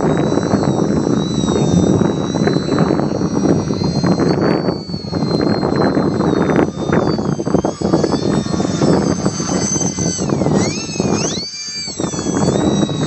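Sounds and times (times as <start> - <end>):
model plane motor whining: 0.0 - 13.0
wind buffeting microphone: 0.0 - 13.0.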